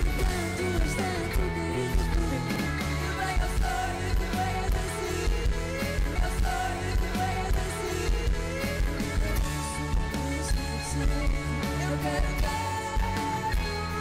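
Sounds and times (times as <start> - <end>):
live pop band music: 0.0 - 14.0.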